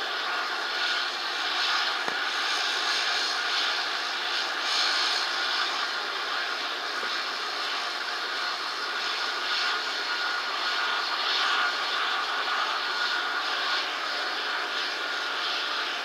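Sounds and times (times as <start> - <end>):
faint high whine: 0.0 - 16.0.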